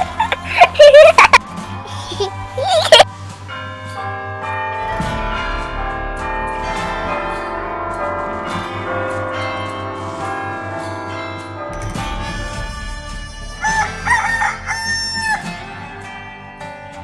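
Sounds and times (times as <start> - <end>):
bells ringing: 0.0 - 17.0.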